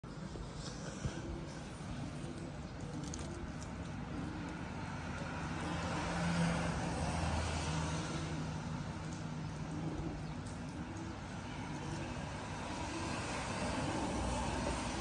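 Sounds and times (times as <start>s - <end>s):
vehicle passing: 0.2s - 15.0s.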